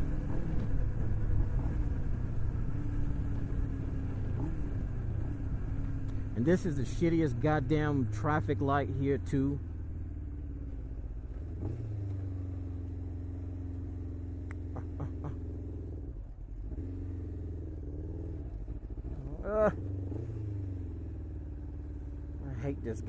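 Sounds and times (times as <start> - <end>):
motorcycle engine at low revs: 0.0 - 23.0.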